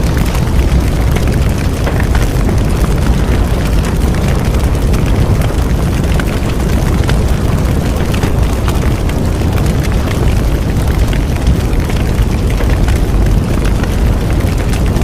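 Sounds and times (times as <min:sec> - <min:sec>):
bonfire flames rushing: 0:00.0 - 0:15.0
burning wood crackling and popping: 0:00.0 - 0:15.0.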